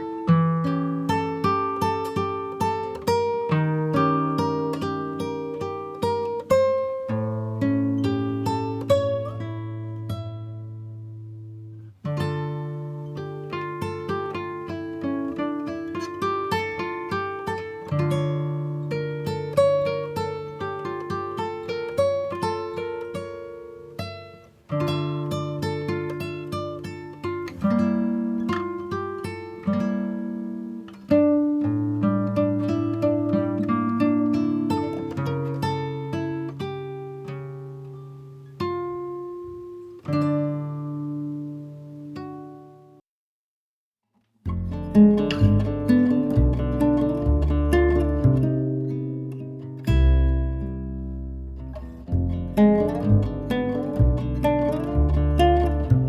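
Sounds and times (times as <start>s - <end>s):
plucked acoustic guitar melody: 0.0s - 43.0s, 44.4s - 56.0s.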